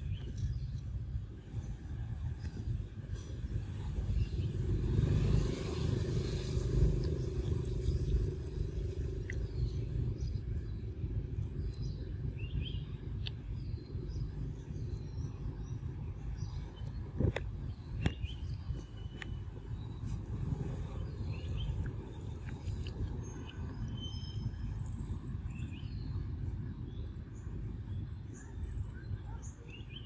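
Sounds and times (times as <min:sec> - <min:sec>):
low rumbling background noise: 0:00.0 - 0:30.0.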